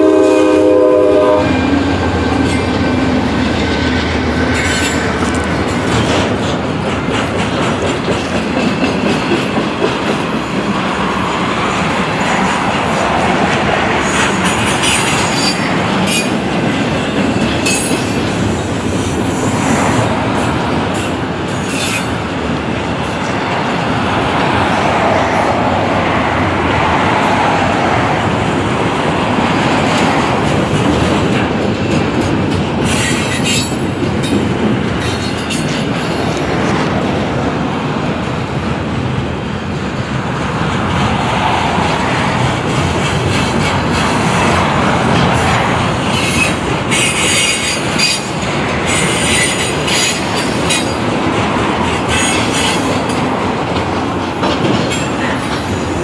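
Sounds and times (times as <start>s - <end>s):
freight train rumbling on rails: 0.0s - 56.0s.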